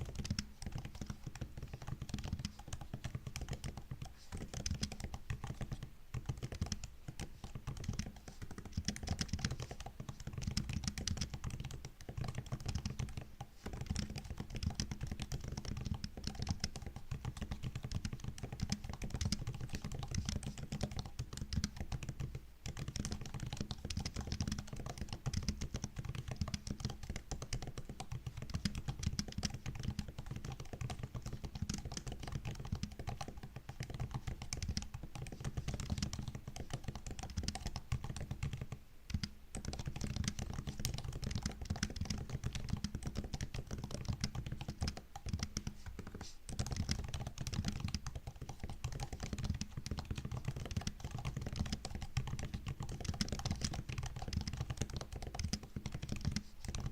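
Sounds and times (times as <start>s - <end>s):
laptop keyboard typing: 0.0s - 56.9s.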